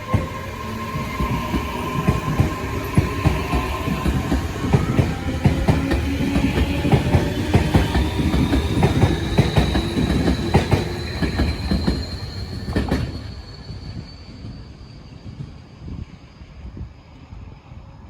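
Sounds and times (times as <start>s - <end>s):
electric train whine: 0.0s - 18.0s
train rumble: 0.0s - 18.0s.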